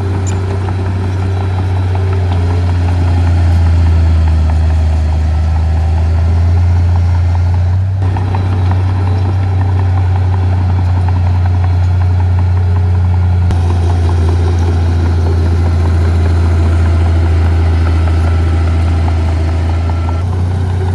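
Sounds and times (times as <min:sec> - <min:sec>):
heavy diesel engine humming: 0:00.0 - 0:20.9.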